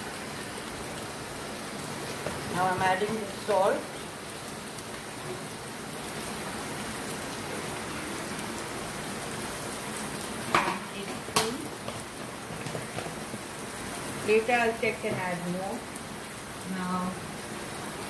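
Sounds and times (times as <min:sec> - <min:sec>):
chicken and onion sizzling in oil: 0:00.0 - 0:18.0.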